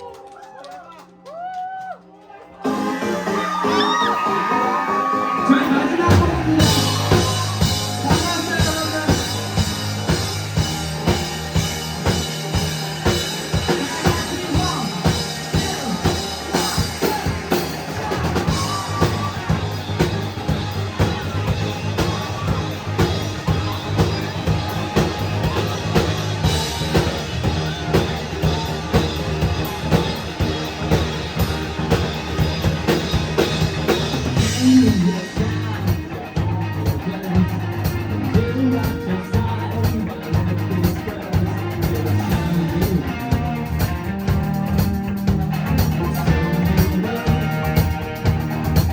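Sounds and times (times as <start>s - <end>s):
rock band playing: 2.6s - 48.9s
drum kit beat: 2.7s - 48.9s.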